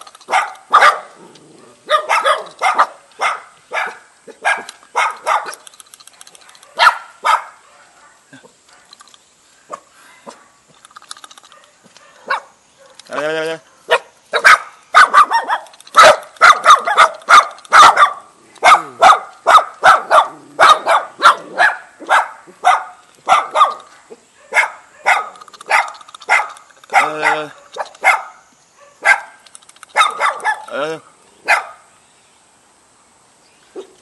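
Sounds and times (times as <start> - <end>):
dogs barking: 0.2 - 9.0, 11.4 - 30.8, 31.4 - 31.9.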